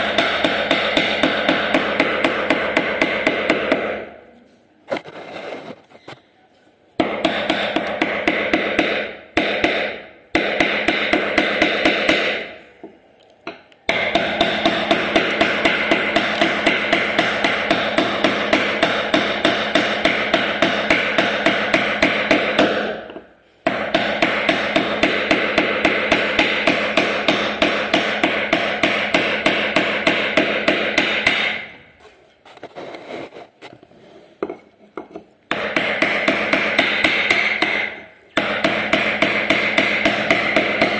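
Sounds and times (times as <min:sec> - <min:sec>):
mallet tapping a chisel into wood: 0:00.0 - 0:04.0, 0:07.0 - 0:12.5, 0:13.5 - 0:31.7, 0:34.4 - 0:40.9.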